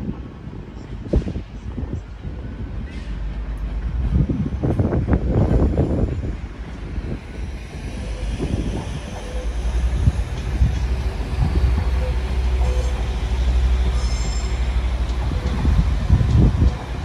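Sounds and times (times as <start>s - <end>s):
train engines and wheels rumbling: 0.0s - 17.0s.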